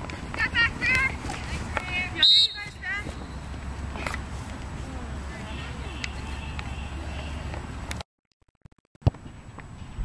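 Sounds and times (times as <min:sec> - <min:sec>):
low rumble and hiss outdoors: 0:00.0 - 0:08.0, 0:09.0 - 0:10.0.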